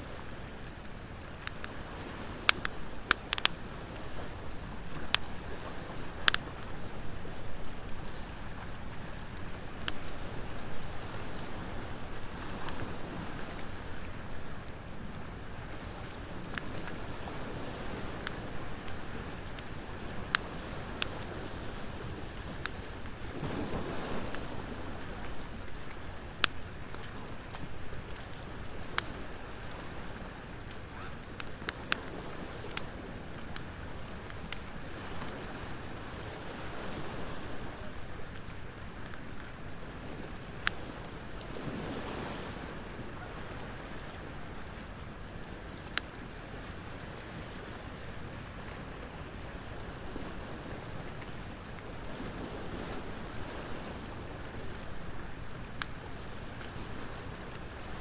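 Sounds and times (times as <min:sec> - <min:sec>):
bonfire crackling and popping: 0:00.0 - 0:58.0
ocean surf waves: 0:00.0 - 0:58.0.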